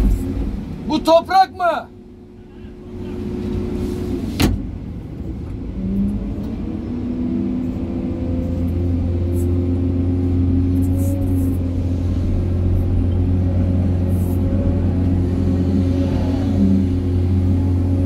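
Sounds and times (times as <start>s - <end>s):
excavator diesel engine and hydraulics: 0.0s - 18.0s.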